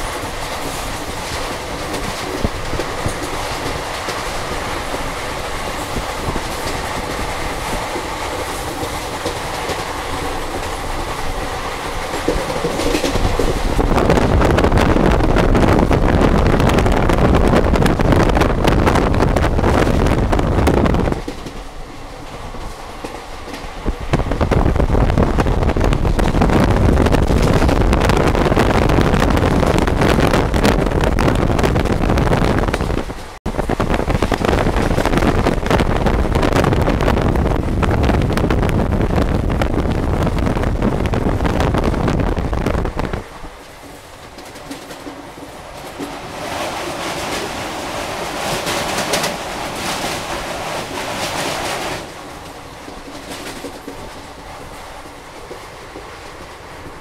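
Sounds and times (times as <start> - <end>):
train wheels rumbling on track: 0.0 - 57.0
wind buffeting microphone: 0.0 - 57.0.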